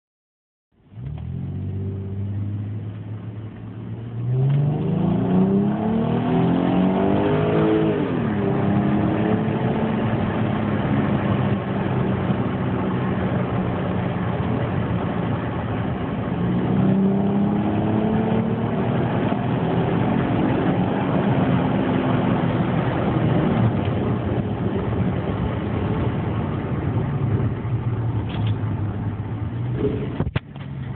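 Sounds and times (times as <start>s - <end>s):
car engine accelerating: 0.8s - 30.9s.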